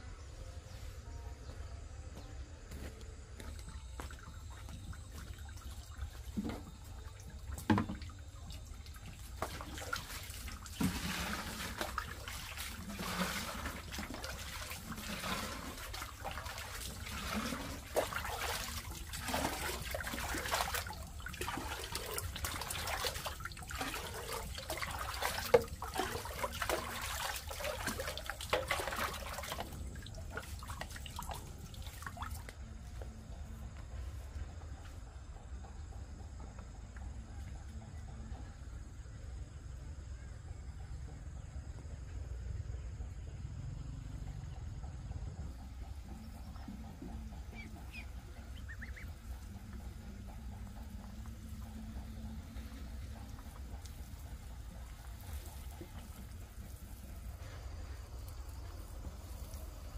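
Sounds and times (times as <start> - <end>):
water splashing and trickling: 3.4 - 34.9, 42.7 - 59.9.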